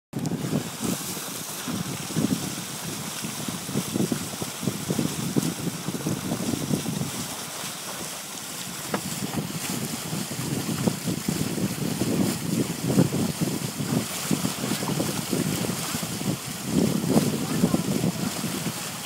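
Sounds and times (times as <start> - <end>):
wind buffeting microphone: 0.1 - 19.0
water splashing along boat hull: 0.2 - 19.0.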